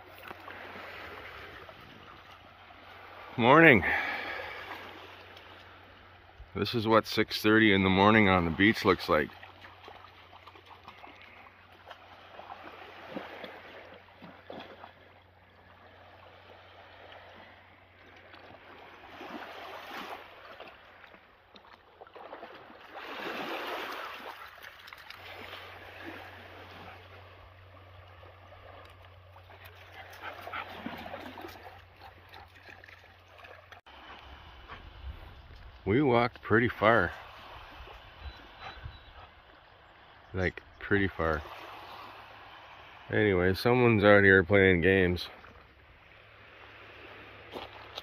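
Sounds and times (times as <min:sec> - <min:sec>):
small waves on pebble shore: 0:00.0 - 0:06.8, 0:07.8 - 0:35.4, 0:36.7 - 0:38.6, 0:41.1 - 0:43.1, 0:45.0 - 0:48.0.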